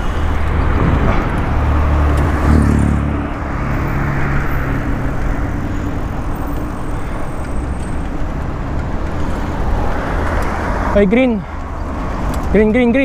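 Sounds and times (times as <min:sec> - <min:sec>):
rushing air: 0:00.0 - 0:12.4
road traffic: 0:00.0 - 0:13.0.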